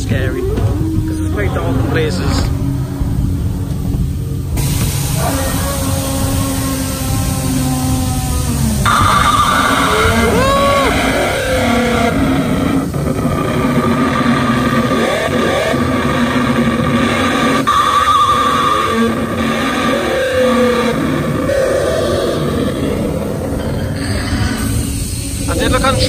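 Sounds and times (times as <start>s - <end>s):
dinosaur screech: 0.0s - 3.0s, 4.6s - 26.0s
rumbling dinosaur roars: 0.0s - 26.0s.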